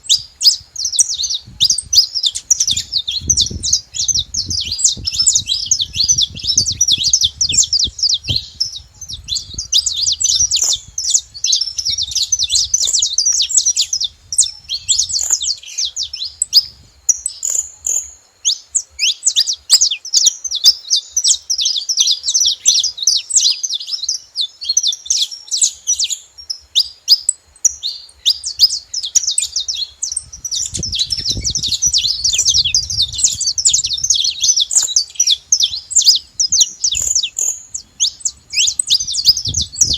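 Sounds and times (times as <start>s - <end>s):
finch chirping: 0.0s - 39.9s.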